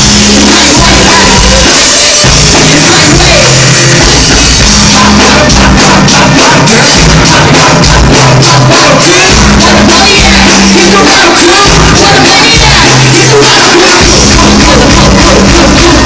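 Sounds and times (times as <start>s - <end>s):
hip-hop music over loudspeakers: 0.0s - 16.0s.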